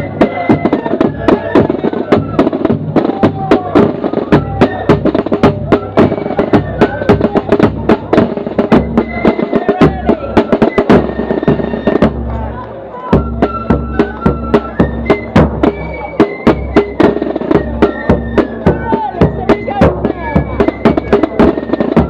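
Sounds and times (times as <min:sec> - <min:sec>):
bass drum: 0:00.0 - 0:12.4, 0:13.2 - 0:22.0
snare drum rolls: 0:00.0 - 0:12.4, 0:13.1 - 0:22.0
flute tune: 0:00.0 - 0:22.0.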